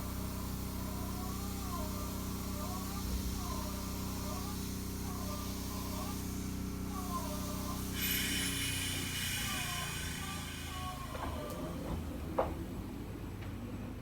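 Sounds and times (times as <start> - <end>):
train air hiss: 0.0 - 13.0
steady low hum: 0.0 - 13.4.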